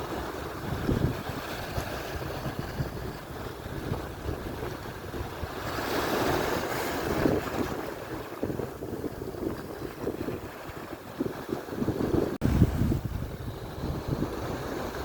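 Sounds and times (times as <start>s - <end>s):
waves washing on shore: 0.0s - 15.0s
wind buffeting microphone: 0.0s - 15.0s.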